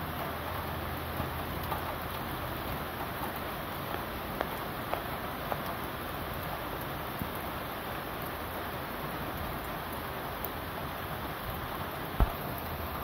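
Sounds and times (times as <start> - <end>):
raindrops tapping close by: 0.0 - 13.0
steady rain hiss: 0.0 - 13.0.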